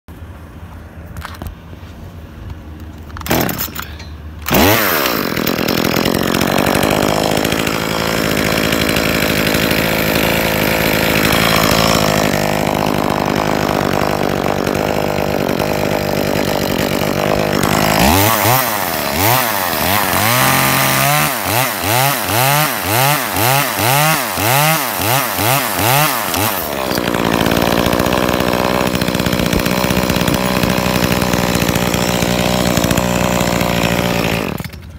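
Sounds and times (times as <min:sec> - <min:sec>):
chainsaw cutting at high speed: 0:03.2 - 0:34.9.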